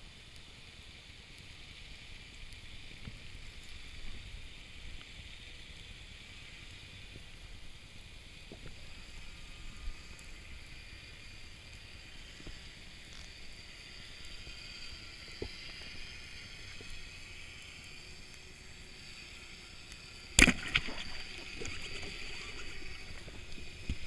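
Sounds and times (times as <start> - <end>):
underwater rumble of moving water: 1.9 - 24.0.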